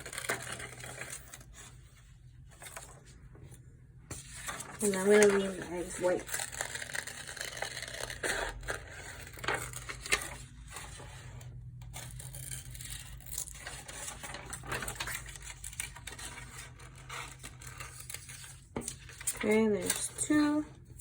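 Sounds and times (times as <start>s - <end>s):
scissors cutting paper: 0.0s - 1.6s, 4.2s - 11.0s, 11.8s - 20.6s
paper rustling: 0.0s - 11.4s, 12.0s - 20.6s.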